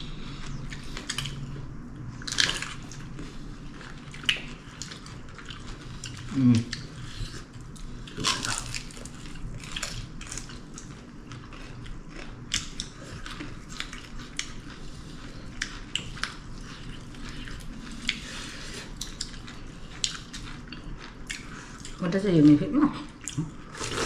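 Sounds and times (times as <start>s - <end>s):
people chewing food: 0.0s - 24.0s.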